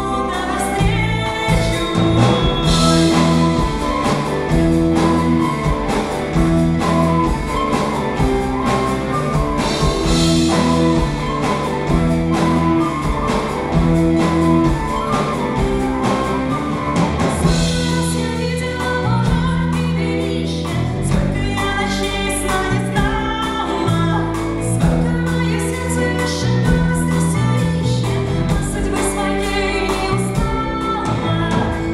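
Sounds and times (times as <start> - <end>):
live band playing: 0.0 - 31.9
woman singing: 0.0 - 31.9.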